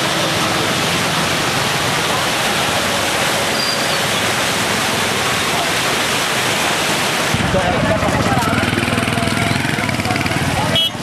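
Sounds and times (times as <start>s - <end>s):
river rushing over weir: 0.0s - 10.8s.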